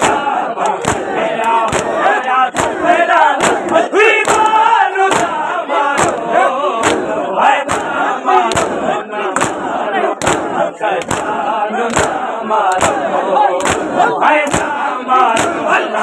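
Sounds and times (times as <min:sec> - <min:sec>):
men beating chests rhythmically: 0:00.0 - 0:16.0
men chanting and shouting: 0:00.0 - 0:16.0.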